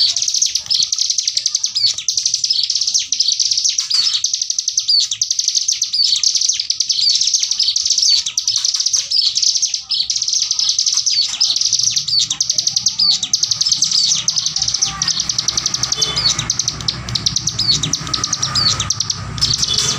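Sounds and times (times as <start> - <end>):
bird singing fast rattling trill: 0.0 - 19.9.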